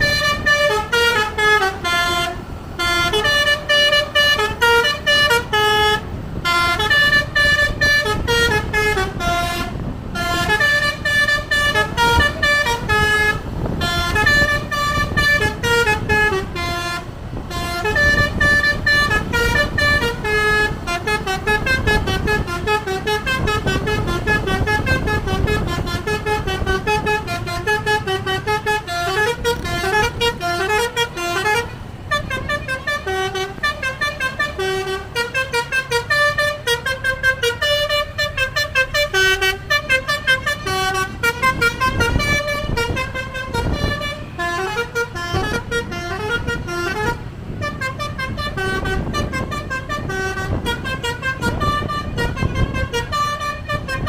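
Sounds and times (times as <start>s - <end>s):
bus engine rumble: 0.0s - 54.0s
musical air horn tune: 0.0s - 54.0s.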